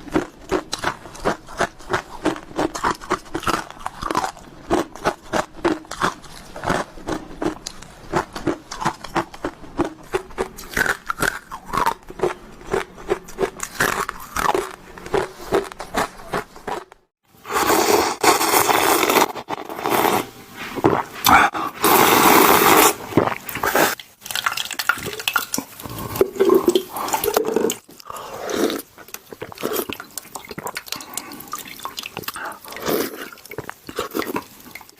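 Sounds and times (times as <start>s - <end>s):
ice being chewed crunching: 0.0s - 34.9s.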